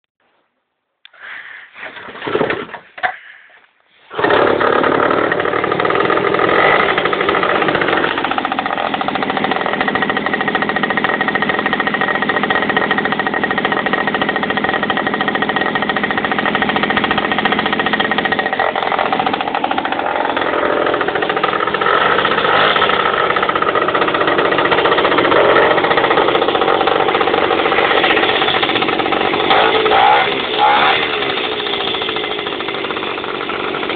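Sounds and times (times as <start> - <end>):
moped engine starting and running: 1.8 - 3.3, 4.0 - 33.9.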